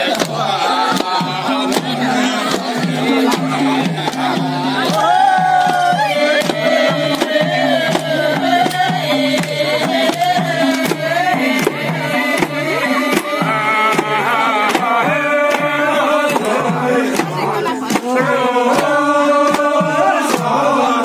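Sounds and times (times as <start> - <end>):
hand drum beating: 0.0 - 20.6
voices singing folk song: 0.0 - 21.0.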